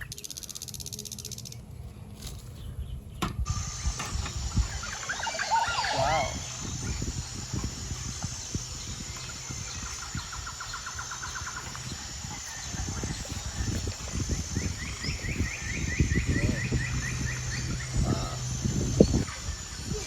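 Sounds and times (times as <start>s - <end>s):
bird trilling: 0.0s - 1.7s, 3.1s - 20.0s
faint high whine: 3.4s - 20.0s.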